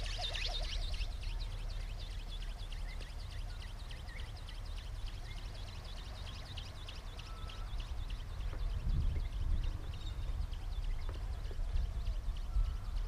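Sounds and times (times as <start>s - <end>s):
small birds chirping: 0.0s - 13.0s
wind rumbling on microphone: 0.0s - 13.0s.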